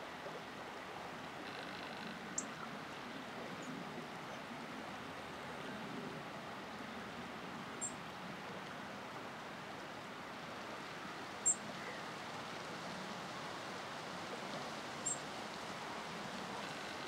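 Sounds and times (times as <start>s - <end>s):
water: 0.0s - 17.0s
wind: 0.0s - 17.0s.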